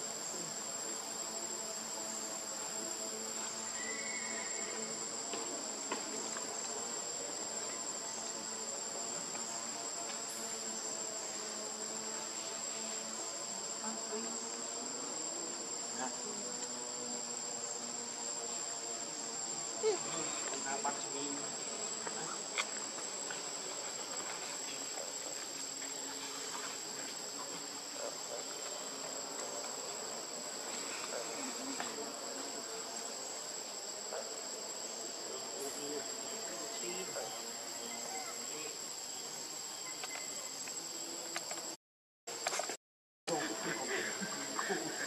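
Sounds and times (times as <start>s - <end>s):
high-pitched insect drone: 0.0s - 42.7s, 43.3s - 45.0s.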